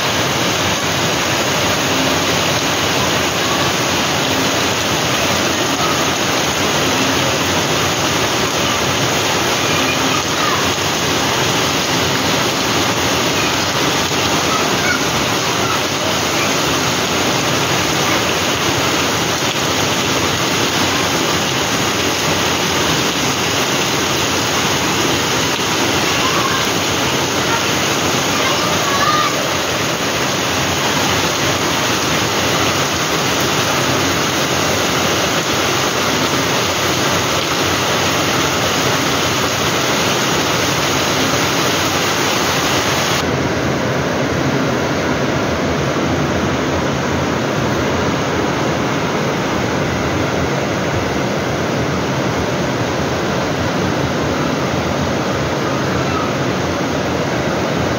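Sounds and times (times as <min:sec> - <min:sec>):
heavy rain on metal roofs: 0:00.0 - 0:57.9
water streaming off eaves: 0:00.0 - 0:57.9.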